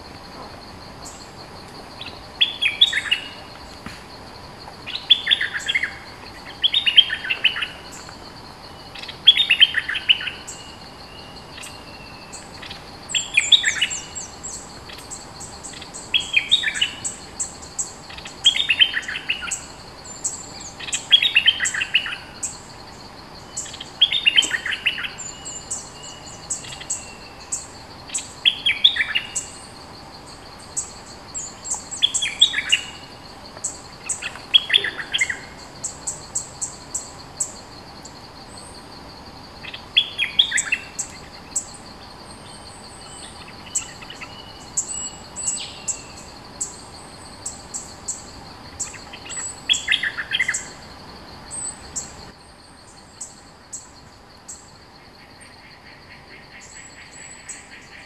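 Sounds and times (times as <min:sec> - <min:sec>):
bulbul singing: 0:00.4 - 0:38.9, 0:39.6 - 0:52.4.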